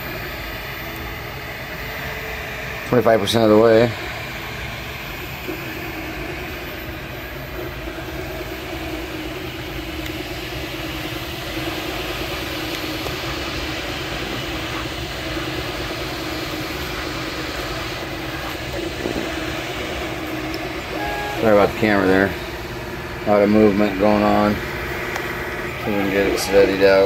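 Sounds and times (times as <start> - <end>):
three-d printer motors and fan whirring: 0.0 - 27.0.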